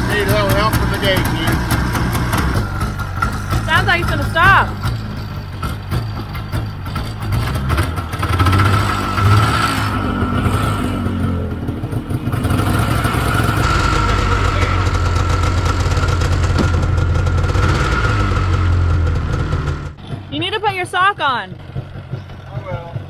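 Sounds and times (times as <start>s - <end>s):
snowmobile engine running unevenly: 0.0s - 23.0s.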